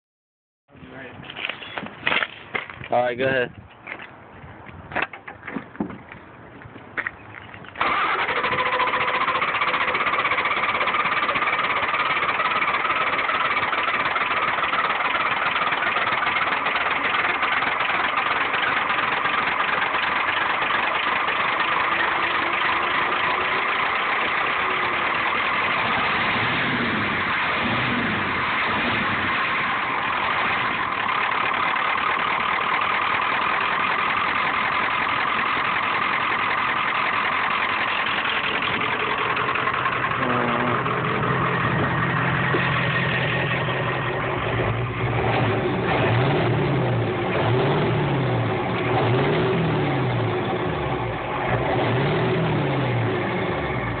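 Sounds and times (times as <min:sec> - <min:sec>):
pickup engine idling and revving: 0:06.0 - 0:54.0.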